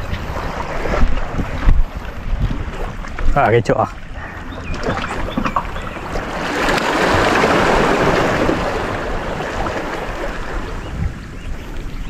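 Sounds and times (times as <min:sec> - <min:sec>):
seawater washing among boulders: 0:00.0 - 0:12.0.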